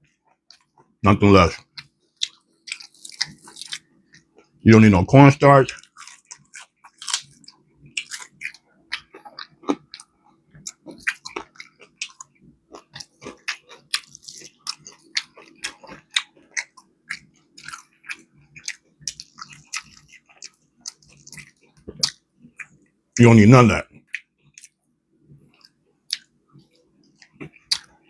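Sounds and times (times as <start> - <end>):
chewing crispy fried chicken: 0.0 - 28.0.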